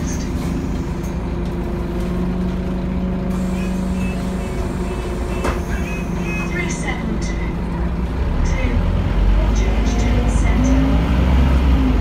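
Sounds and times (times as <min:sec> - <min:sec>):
bus diesel engine running: 0:00.0 - 0:12.0
road rumble: 0:00.0 - 0:12.0.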